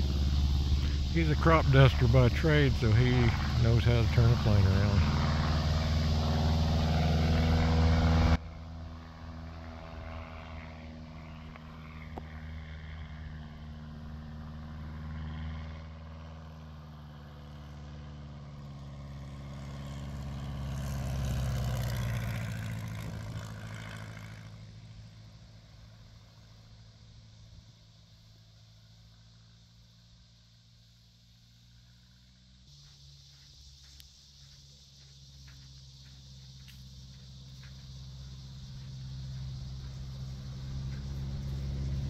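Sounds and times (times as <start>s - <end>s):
light aircraft engine droning: 0.0s - 42.0s
low-flying plane passing: 0.0s - 42.0s.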